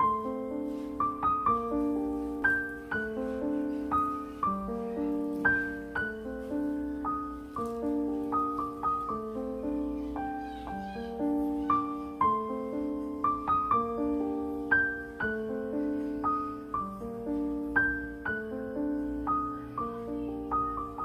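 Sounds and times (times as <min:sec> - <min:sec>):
gentle piano piece: 0:00.0 - 0:21.0.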